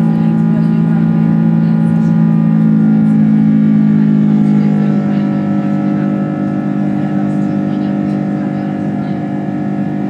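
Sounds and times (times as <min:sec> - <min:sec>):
jet engines droning in cabin: 0:00.0 - 0:10.0.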